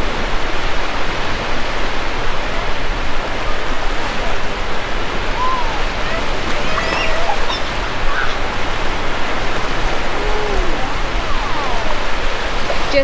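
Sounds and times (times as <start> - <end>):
surf washing onto beach: 0.0 - 13.0
wind blowing across microphone: 0.0 - 13.0.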